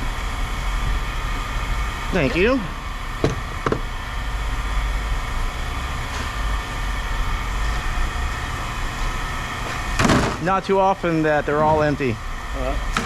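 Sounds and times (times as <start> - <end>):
machinery rumble and hum: 0.0 - 13.0.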